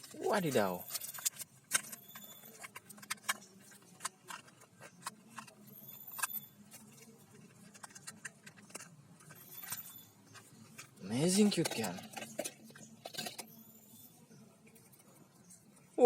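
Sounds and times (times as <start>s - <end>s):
plastic toys clicking and rattling: 0.0s - 16.0s.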